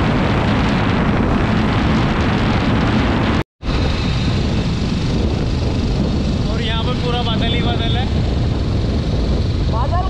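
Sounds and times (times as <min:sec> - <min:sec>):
motorcycle running: 0:00.0 - 0:10.0
wind buffeting microphone: 0:00.0 - 0:10.0.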